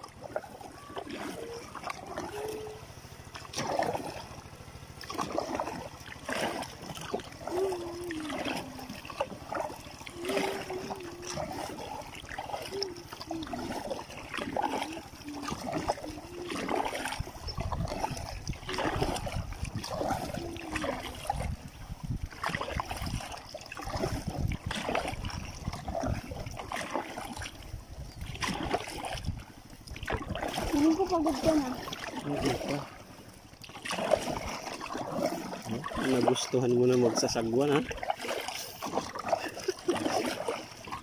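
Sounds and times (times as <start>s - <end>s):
paddle splashing in water: 0.0s - 41.0s
water trickling: 0.0s - 41.0s.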